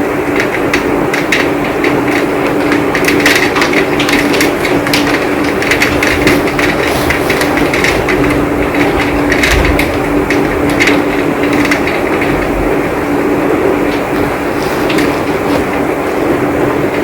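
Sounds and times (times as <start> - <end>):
heavy rain on hard surfaces: 0.0 - 17.0.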